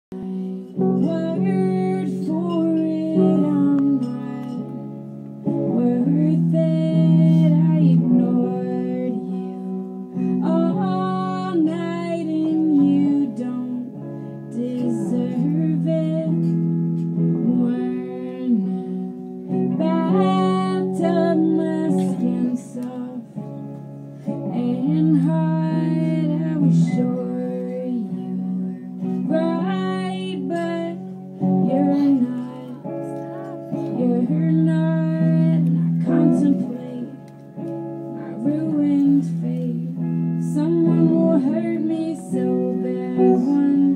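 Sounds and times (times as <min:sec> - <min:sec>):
strummed guitar: 0:00.1 - 0:43.9
woman singing: 0:00.1 - 0:43.9.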